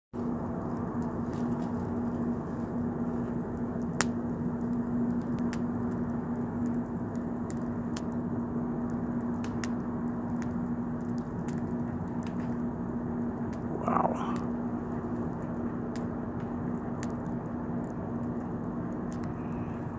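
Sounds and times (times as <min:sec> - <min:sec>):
low hum: 0:00.2 - 0:19.9
wood fire crackling: 0:00.2 - 0:19.9.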